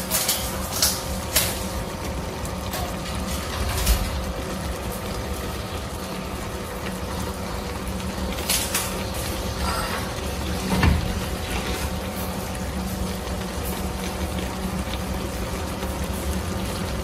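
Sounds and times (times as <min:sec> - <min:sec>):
hob humming: 0:00.0 - 0:17.0
sauce bubbling: 0:00.5 - 0:17.0.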